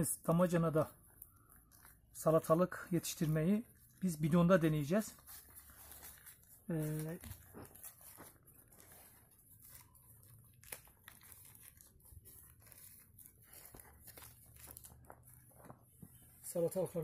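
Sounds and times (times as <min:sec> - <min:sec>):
faint rustling and crinkling: 0:00.2 - 0:17.0.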